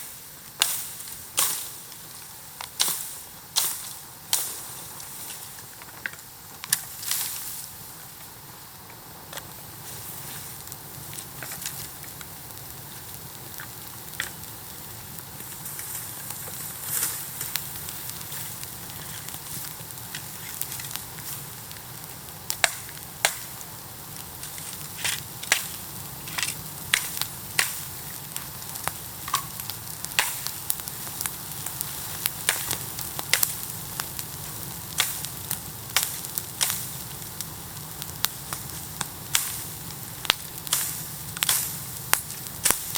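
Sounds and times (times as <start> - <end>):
fire crackling and popping: 0.0 - 42.9
fire hissing: 0.0 - 42.9.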